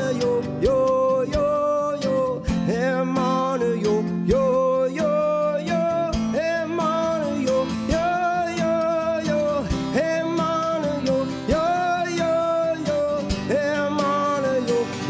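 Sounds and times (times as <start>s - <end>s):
sliding guitar melody: 0.0s - 15.0s.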